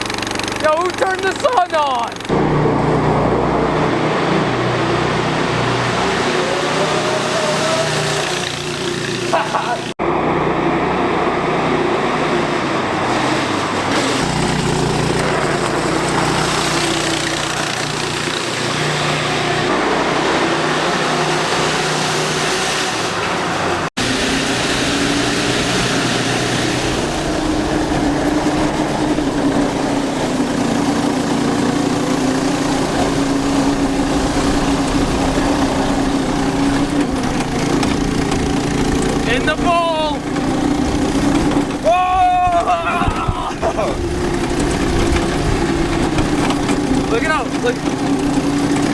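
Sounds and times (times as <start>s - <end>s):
go-kart engine running: 0.0s - 48.9s.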